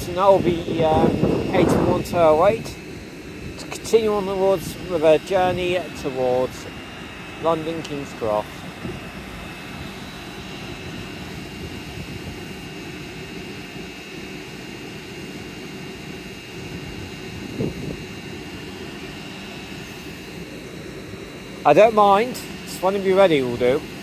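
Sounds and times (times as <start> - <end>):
electric train running rumble: 0.0 - 24.0.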